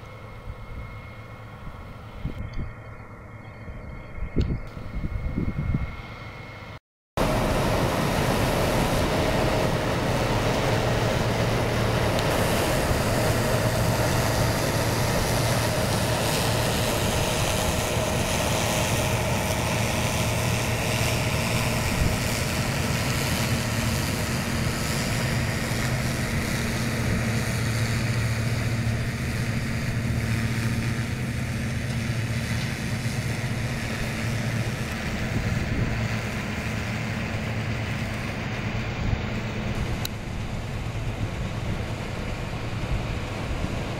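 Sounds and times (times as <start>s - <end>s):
tractor engine drone: 0.0s - 43.9s
combine threshing machinery: 7.2s - 43.9s.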